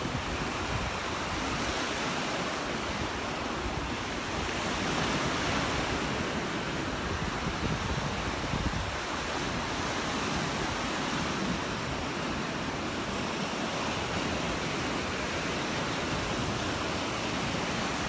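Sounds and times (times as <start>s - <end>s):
waves breaking on beach: 0.0s - 18.0s
wind rumbling on microphone: 0.0s - 18.0s.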